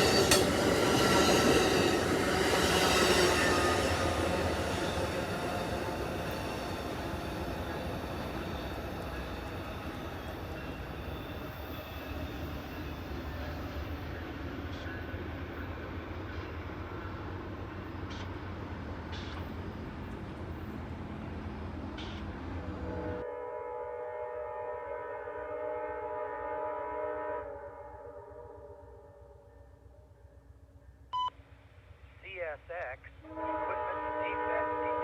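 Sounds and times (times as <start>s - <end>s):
passenger train rumbling past: 0.0s - 30.9s, 31.7s - 35.0s.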